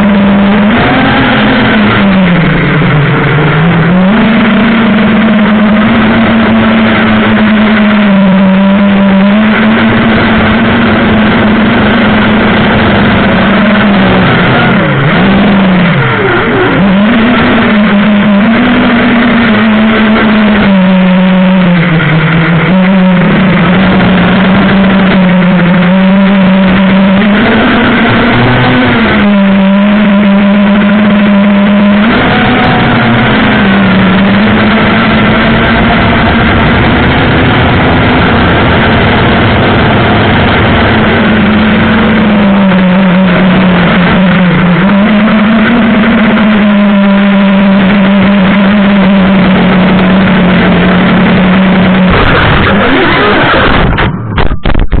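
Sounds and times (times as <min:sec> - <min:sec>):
quadcopter motors whining: 0:00.0 - 0:54.8.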